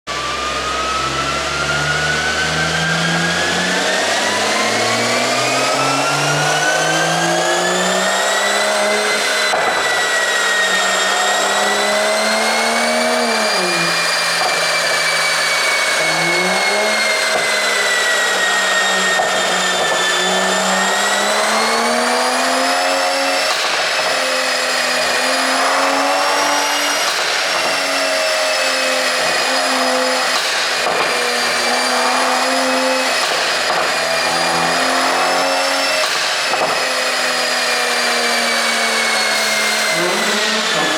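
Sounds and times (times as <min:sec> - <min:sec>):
car engine and exhaust: 0:00.1 - 0:40.9.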